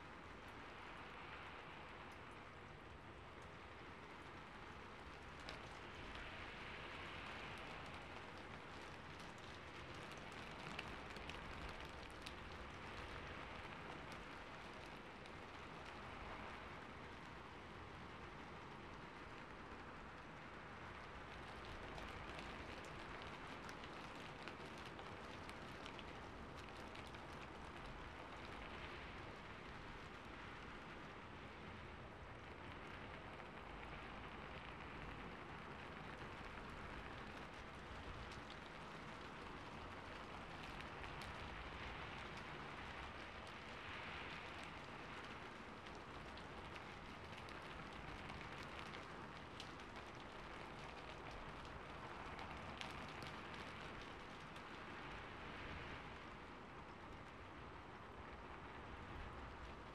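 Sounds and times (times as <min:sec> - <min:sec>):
rain falling on a rooftop: 0:00.0 - 0:59.9.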